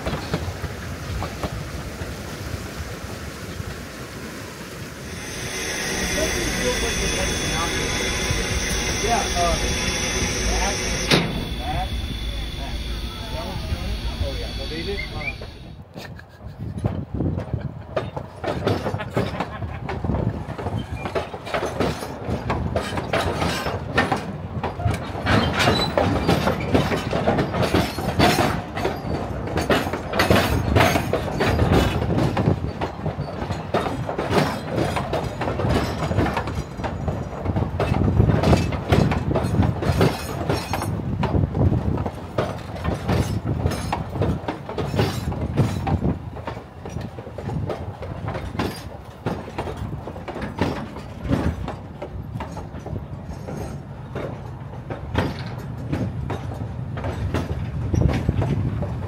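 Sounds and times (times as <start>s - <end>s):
train wheels clattering on rails: 0.0s - 2.1s, 5.1s - 15.7s, 16.8s - 59.0s.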